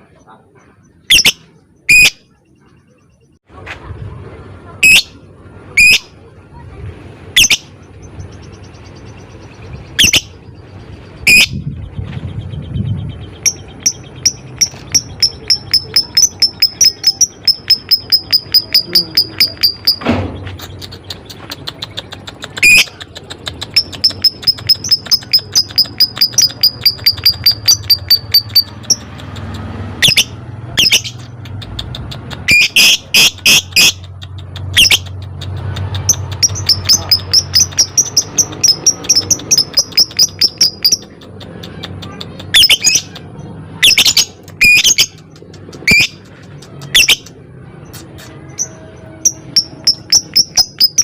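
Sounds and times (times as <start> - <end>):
lovebird rapid high chirps: 1.0 - 3.3, 4.8 - 5.2, 5.8 - 6.1, 7.3 - 51.0.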